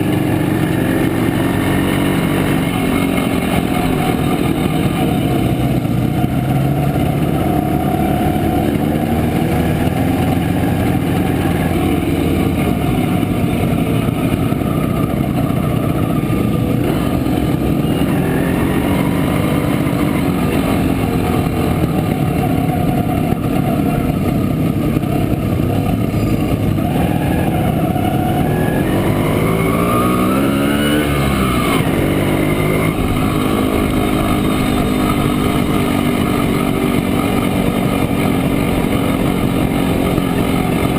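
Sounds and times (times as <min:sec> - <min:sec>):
two-stroke motorcycle engine running: 0:00.0 - 0:40.9.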